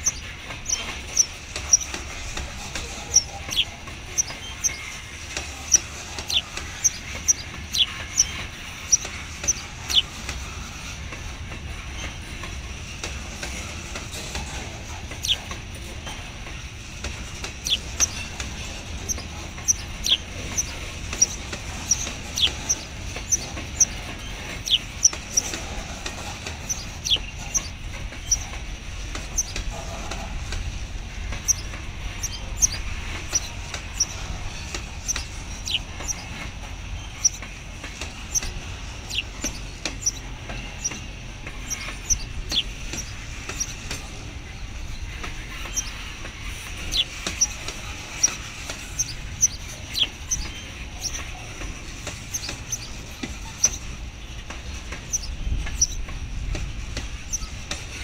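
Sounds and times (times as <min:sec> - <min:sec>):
sharp high clicks and squeaks: 0:00.0 - 0:58.0
train rumbling past: 0:00.0 - 0:58.0.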